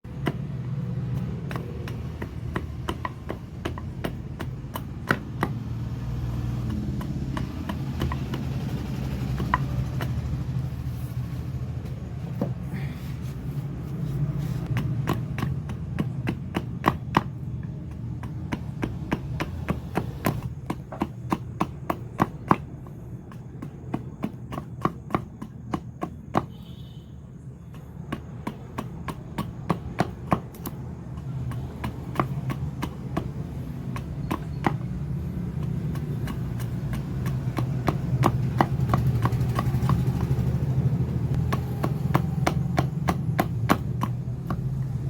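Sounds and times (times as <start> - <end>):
hand tool knocking on wood: 0.1 - 12.9, 14.6 - 45.0.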